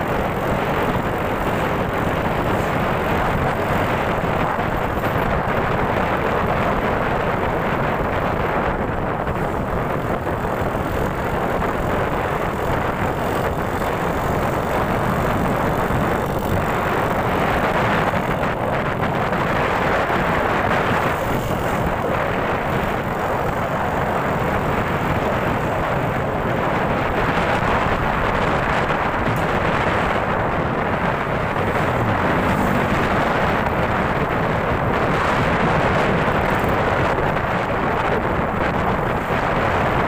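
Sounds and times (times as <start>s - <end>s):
motorcycle engine and road noise: 0.0s - 40.0s
wind rush: 0.0s - 40.0s.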